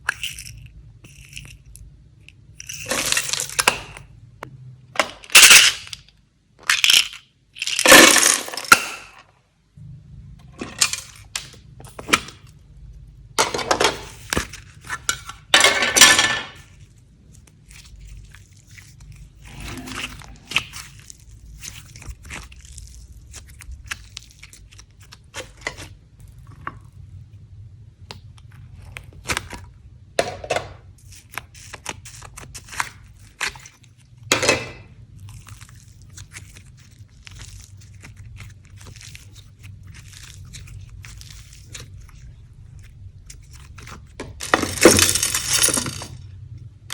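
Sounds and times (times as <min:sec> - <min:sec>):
slime squelching and crackling: 0:00.0 - 0:04.3, 0:10.5 - 0:30.2, 0:30.9 - 0:46.9.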